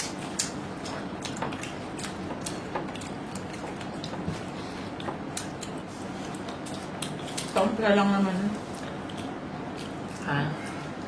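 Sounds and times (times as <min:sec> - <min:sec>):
room noise: 0:00.0 - 0:11.0.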